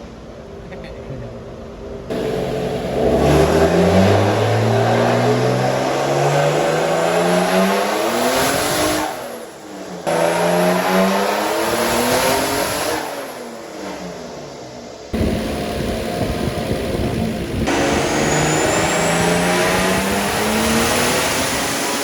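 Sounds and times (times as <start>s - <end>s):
car engine revving at full throttle: 2.1s - 22.0s.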